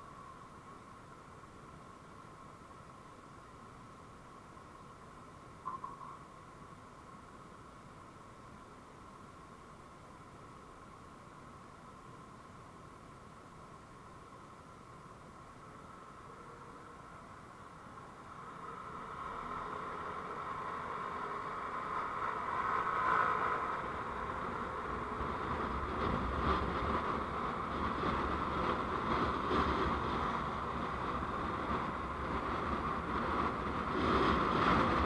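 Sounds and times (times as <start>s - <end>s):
vehicle road and engine noise: 0.0s - 35.0s.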